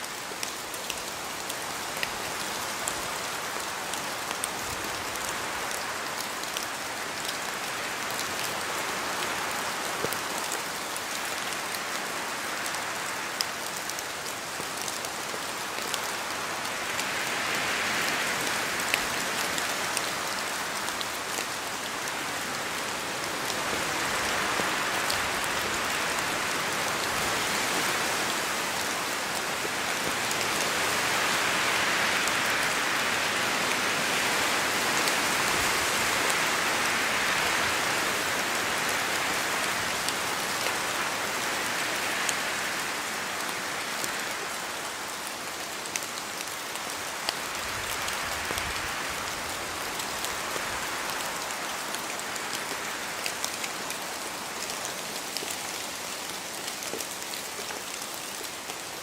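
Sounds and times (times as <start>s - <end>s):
steady rain in forest: 0.0s - 59.0s
wind in trees: 0.0s - 59.0s.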